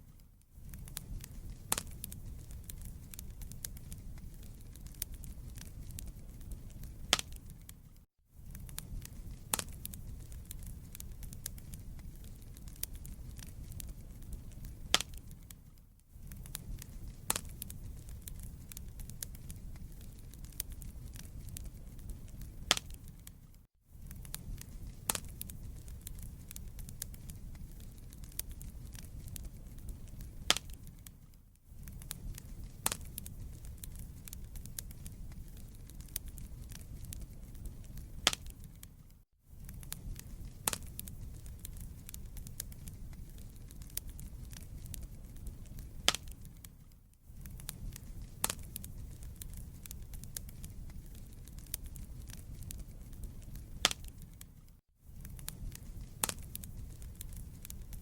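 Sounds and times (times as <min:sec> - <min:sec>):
fireplace flames rumbling: 0:00.0 - 0:58.0
wood fire crackling and popping: 0:00.0 - 0:58.0.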